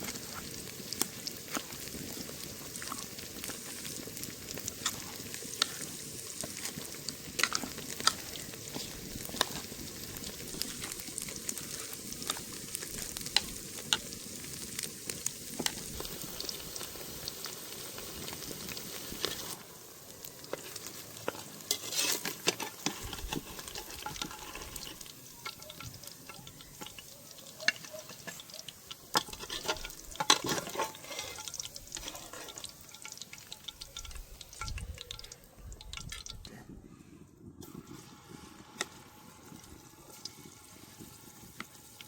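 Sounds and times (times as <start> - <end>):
hot oil sizzling: 0.0 - 36.5, 37.6 - 42.0.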